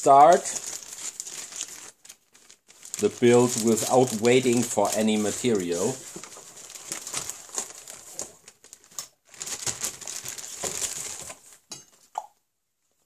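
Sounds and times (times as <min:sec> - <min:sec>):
packing material rustling and crinkling: 0:00.0 - 0:11.7.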